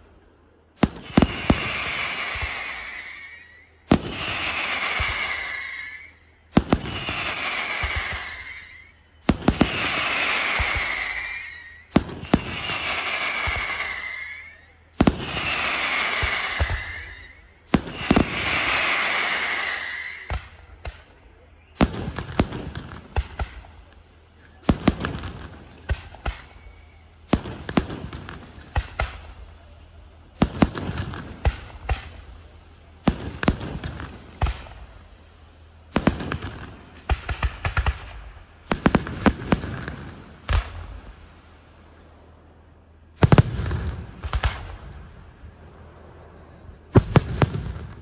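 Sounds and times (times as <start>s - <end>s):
firework crackle: 0.0s - 48.0s
firework shells bursting: 0.8s - 41.6s.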